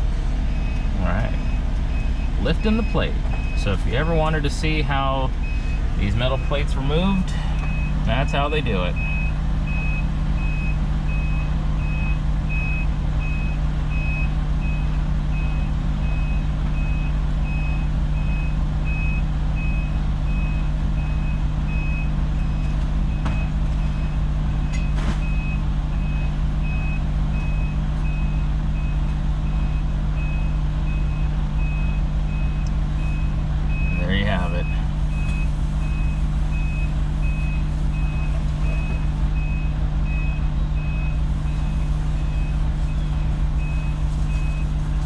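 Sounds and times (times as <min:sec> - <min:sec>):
diesel truck engine idling: 0:00.0 - 0:45.0
backup alarm beeping: 0:00.5 - 0:04.6, 0:05.4 - 0:44.8.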